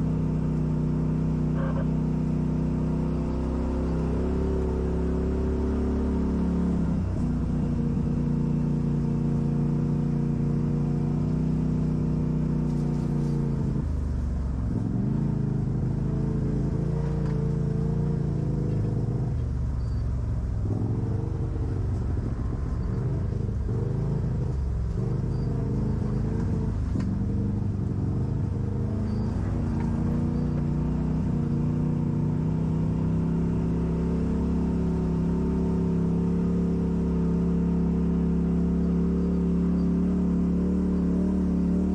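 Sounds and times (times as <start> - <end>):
off-road vehicle engine revving: 0.0 - 41.9.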